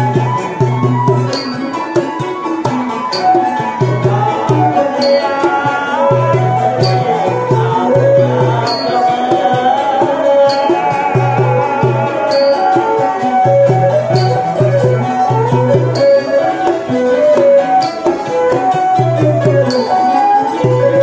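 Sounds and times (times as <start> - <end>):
bowed fiddle melody: 0.0 - 21.0
hand drum beat: 0.0 - 21.0
man singing into a microphone: 3.4 - 21.0.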